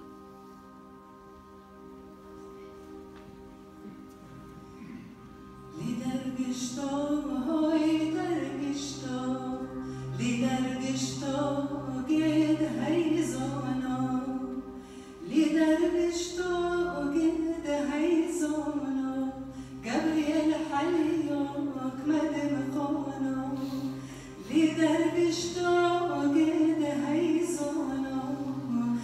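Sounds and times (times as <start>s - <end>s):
person singing ornamented chant: 4.8s - 29.0s.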